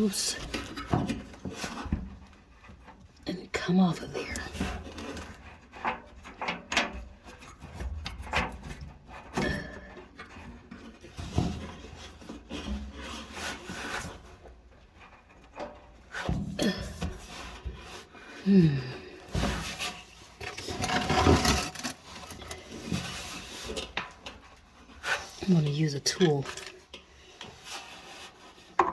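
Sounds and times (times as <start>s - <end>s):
belt scraping and knocking: 0.0s - 28.9s.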